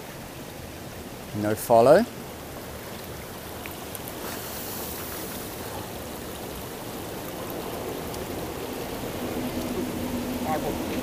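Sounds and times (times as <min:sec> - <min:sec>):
river water over rocks: 0:00.0 - 0:11.0.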